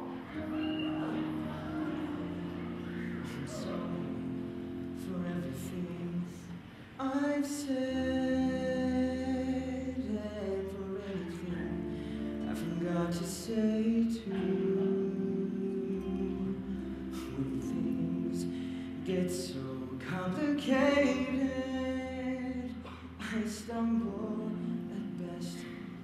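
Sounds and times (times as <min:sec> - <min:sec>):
man singing ballad: 0:00.0 - 0:26.0.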